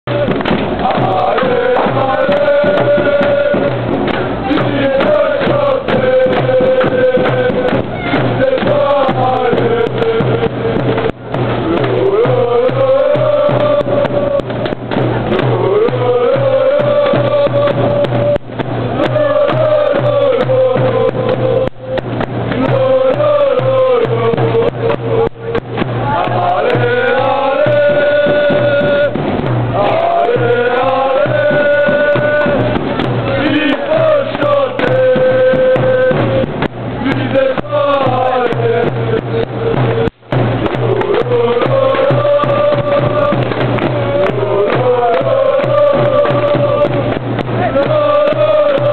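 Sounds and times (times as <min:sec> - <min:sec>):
steady drum beat: 0:00.0 - 0:48.9
crowd chanting in unison: 0:00.1 - 0:48.9.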